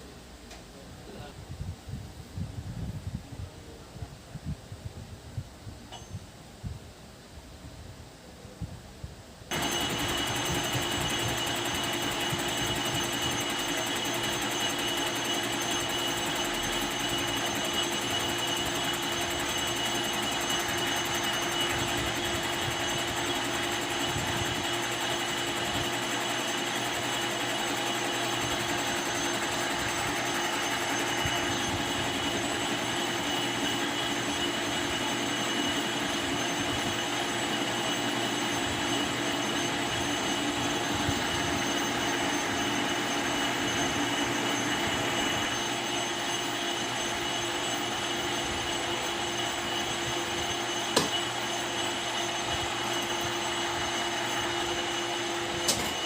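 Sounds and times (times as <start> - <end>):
metalworking machine cutting: 9.5 - 56.0.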